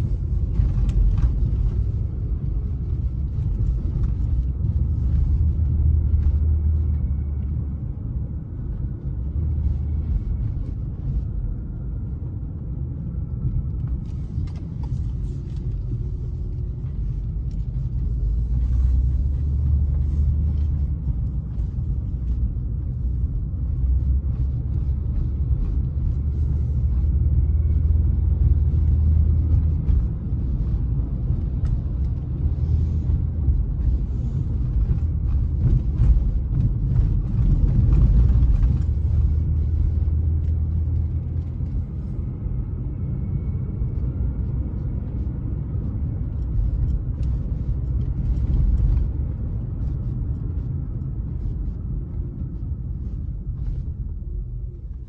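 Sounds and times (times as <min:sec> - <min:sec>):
car cabin road rumble: 0:00.0 - 0:55.0.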